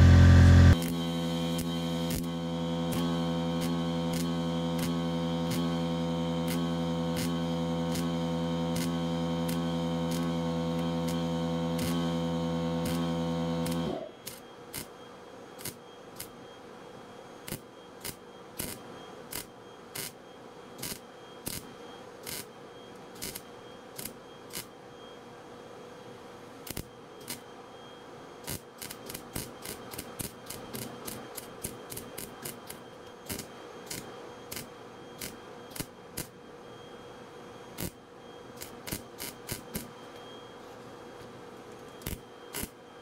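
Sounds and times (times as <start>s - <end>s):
steady electrical hum: 0.0s - 43.0s.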